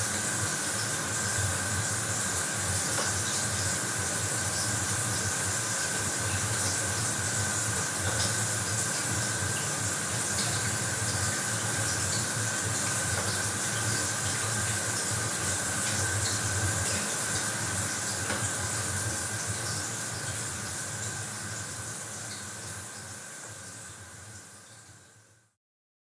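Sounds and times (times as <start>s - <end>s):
shower water spray hissing: 0.0s - 24.4s.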